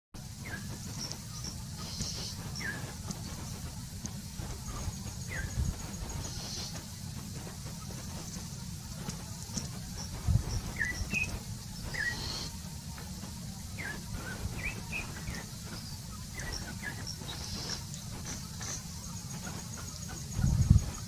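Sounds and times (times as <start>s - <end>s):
birds calling and chirping: 0.2s - 21.0s
low steady rumble: 0.2s - 21.0s.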